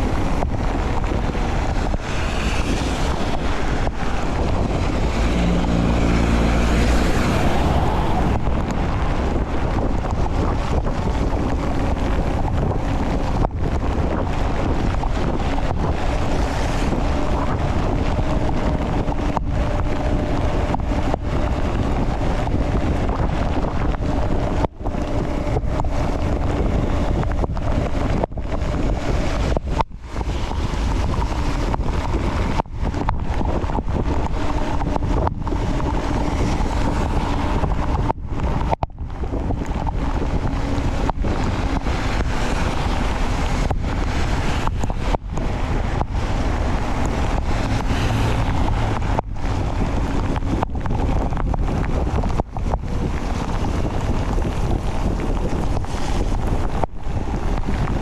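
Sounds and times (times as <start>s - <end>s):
wind on camera microphone: 0.0s - 58.0s.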